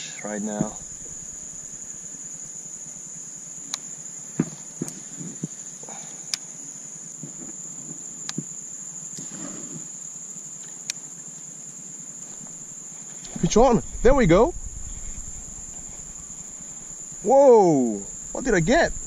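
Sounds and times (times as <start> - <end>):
insect chorus trilling: 0.0 - 19.0.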